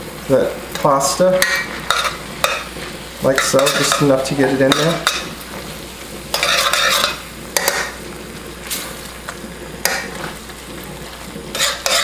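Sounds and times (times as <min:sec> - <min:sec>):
pan sizzling: 0:00.0 - 0:12.0
tongs scraping and stirring food: 0:00.7 - 0:12.0.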